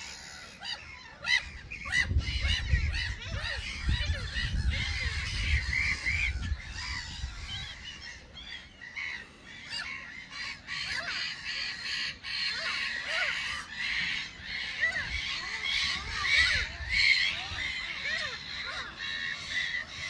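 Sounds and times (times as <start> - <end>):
gulls squawking: 0.0 - 20.0.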